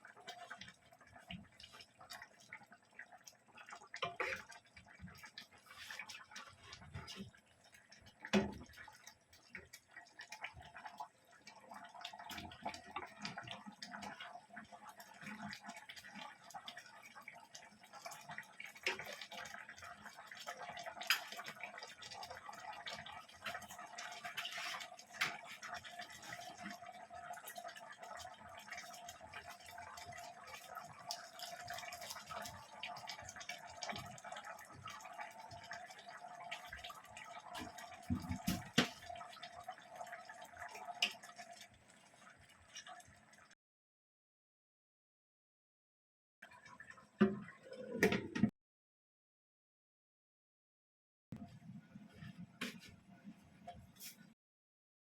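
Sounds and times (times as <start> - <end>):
liquid dripping and bubbling: 0.0 - 43.6, 46.4 - 48.5, 51.4 - 54.4.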